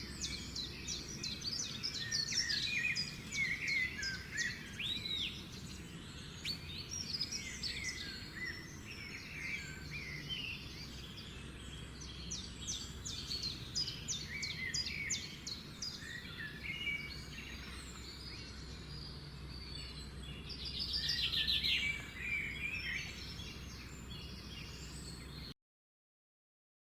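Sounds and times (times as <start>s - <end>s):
songbirds chirping and trilling: 0.0s - 25.6s.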